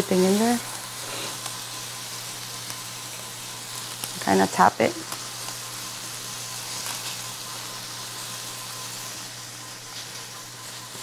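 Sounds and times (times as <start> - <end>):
tofu sizzling in oil: 0.0 - 11.0.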